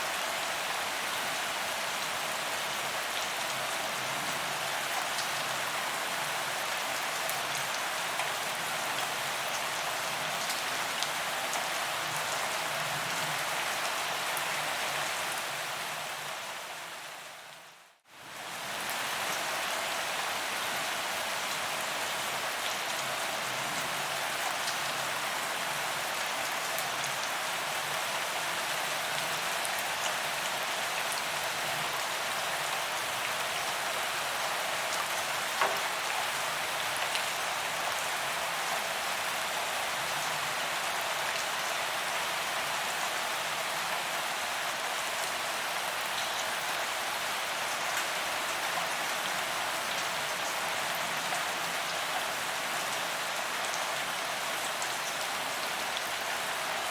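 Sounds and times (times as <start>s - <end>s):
rain on pavement: 0.0s - 16.7s, 18.2s - 56.9s.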